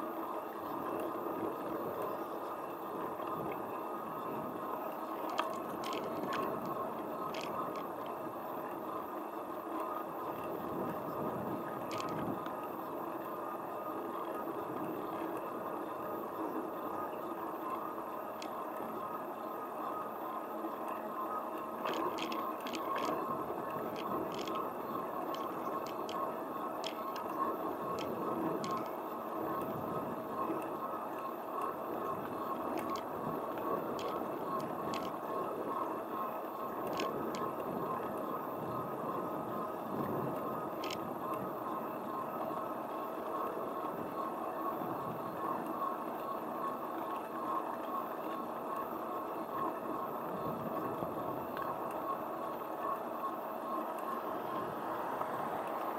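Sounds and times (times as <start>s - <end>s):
constant hum: 0.0s - 55.9s
wheels rolling on asphalt: 0.0s - 55.9s
light clicks and ticks: 0.1s - 55.9s.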